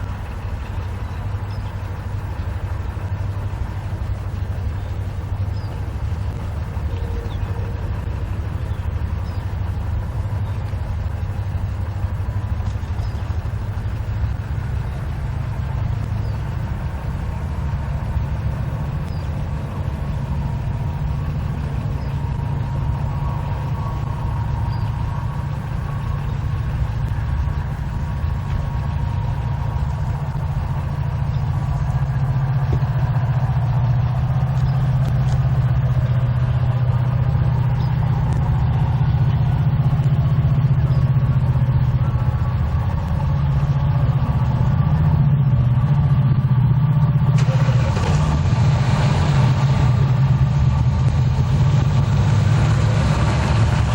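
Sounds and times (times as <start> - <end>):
diesel locomotive engine humming: 0.0 - 53.9.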